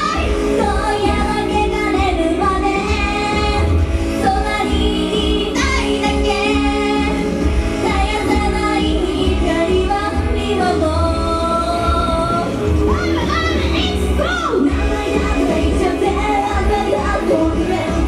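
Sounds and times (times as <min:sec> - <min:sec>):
women singing pop song: 0:00.0 - 0:18.0.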